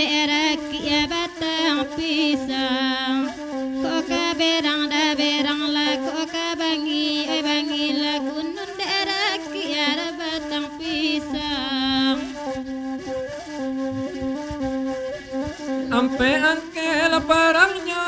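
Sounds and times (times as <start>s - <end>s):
bamboo flute playing: 0.0s - 7.6s, 8.6s - 18.0s
woman singing: 0.0s - 12.7s, 15.8s - 18.0s.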